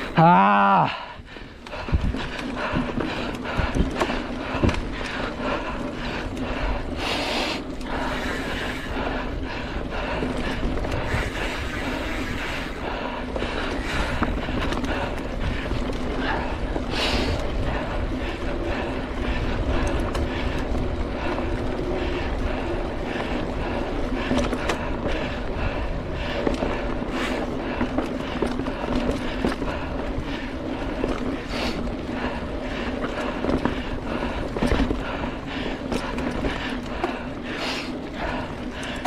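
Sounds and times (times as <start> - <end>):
bike tyres rumbling on dirt: 0.0 - 39.0
bike rattles and knocks: 1.6 - 39.0.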